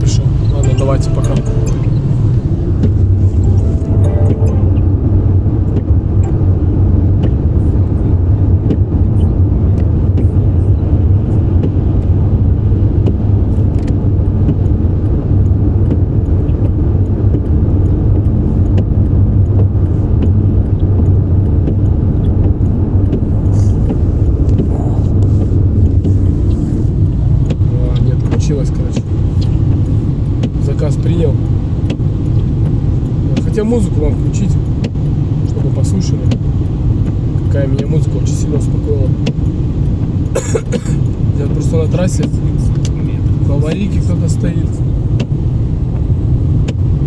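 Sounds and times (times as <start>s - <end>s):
car interior engine and tyre noise: 0.0s - 47.0s.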